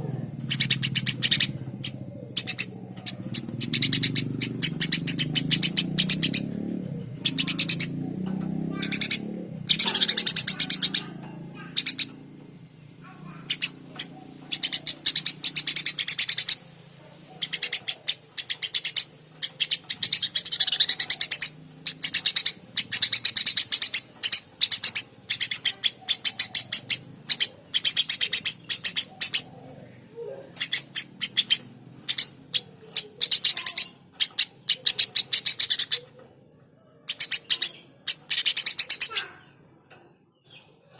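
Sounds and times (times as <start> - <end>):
sparrow chirping: 0.0 - 40.9.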